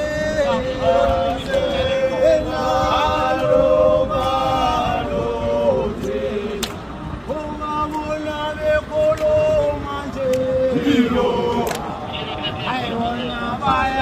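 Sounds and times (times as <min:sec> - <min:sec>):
group of voices chanting a cappella: 0:00.0 - 0:14.0.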